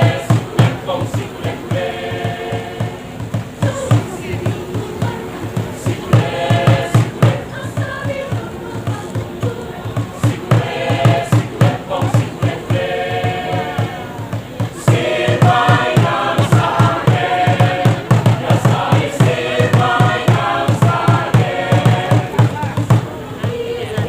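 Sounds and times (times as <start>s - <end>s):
choir singing: 0.0s - 24.0s
low drum beat: 0.0s - 24.0s.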